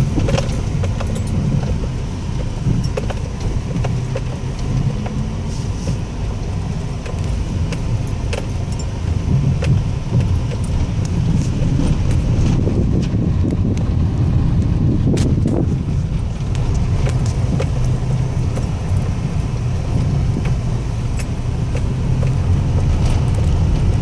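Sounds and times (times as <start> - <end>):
car engine and tyres rumbling: 0.0 - 24.0
small clicks and knocks: 0.1 - 5.2, 5.9 - 13.9, 16.3 - 24.0.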